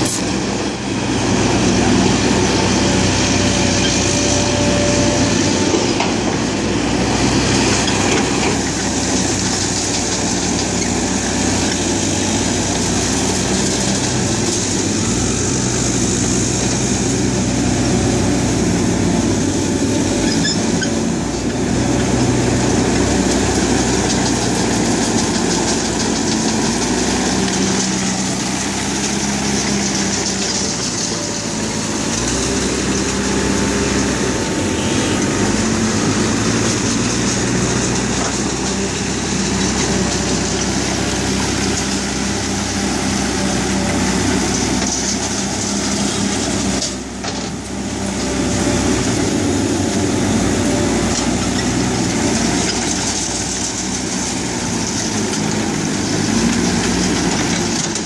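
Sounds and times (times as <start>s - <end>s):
heavy diesel engines under load: 0.0s - 58.0s.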